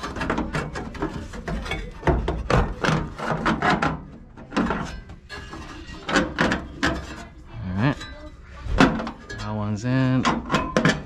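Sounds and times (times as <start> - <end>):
metal parts knocking and scraping: 0.0 - 7.3, 7.9 - 11.0.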